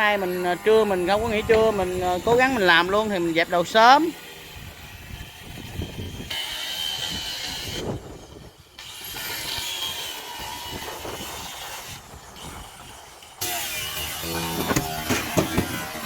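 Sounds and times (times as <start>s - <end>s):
electric saw cutting timber: 0.0s - 16.0s.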